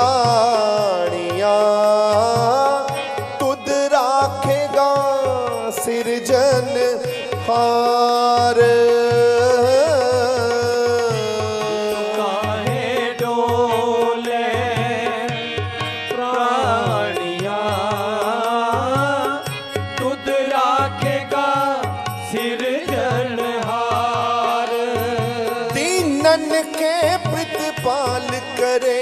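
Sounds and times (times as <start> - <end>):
wavering devotional melody: 0.0 - 29.0.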